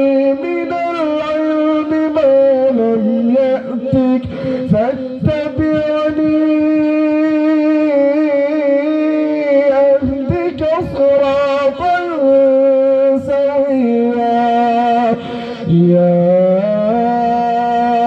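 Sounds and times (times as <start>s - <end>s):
man reciting in melodic chant: 0.0s - 18.0s.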